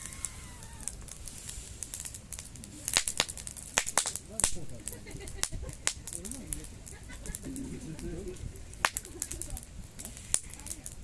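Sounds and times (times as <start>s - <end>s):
sharp pops of fire: 0.0s - 11.0s
wood campfire crackling: 0.0s - 11.0s.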